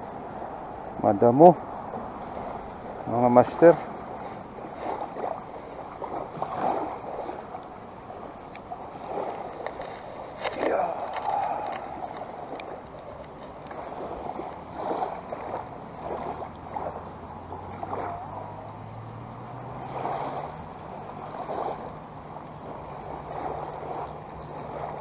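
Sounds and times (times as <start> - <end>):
small waves lapping: 0.0 - 25.0.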